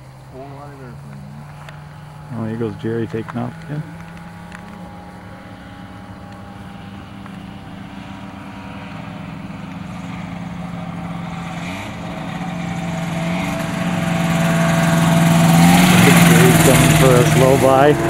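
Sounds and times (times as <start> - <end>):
light airplane propeller engine: 0.0 - 18.0.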